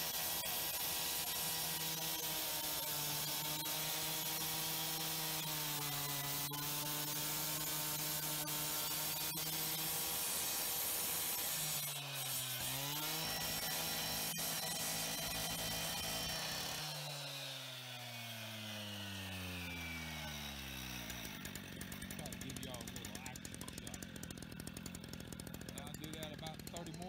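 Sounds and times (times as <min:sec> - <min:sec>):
cut-off saw grinding brick: 0:00.0 - 0:27.0.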